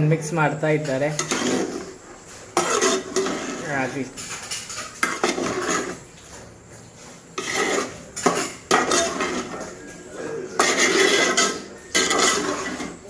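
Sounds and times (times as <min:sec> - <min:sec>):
spoon scraping metal pot: 0:00.8 - 0:06.2, 0:07.3 - 0:13.0.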